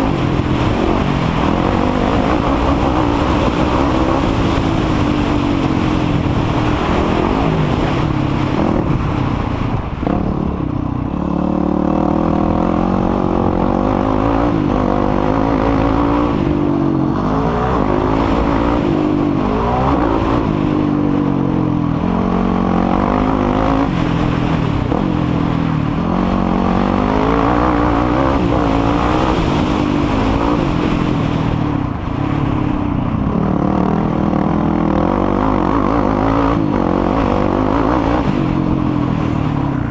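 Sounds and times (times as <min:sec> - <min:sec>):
quad engine revving: 0:00.0 - 0:09.0, 0:10.0 - 0:31.5, 0:33.2 - 0:38.8.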